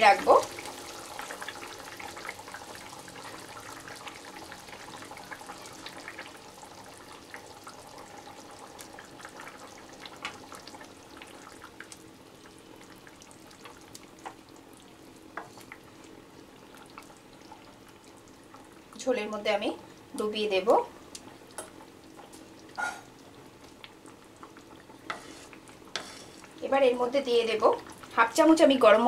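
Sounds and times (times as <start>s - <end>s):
curry simmering with pops: 0.0s - 29.0s.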